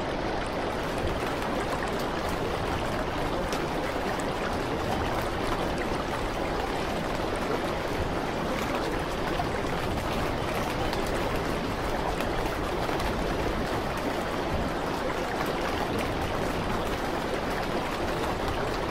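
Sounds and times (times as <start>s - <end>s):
running water: 0.0s - 18.9s.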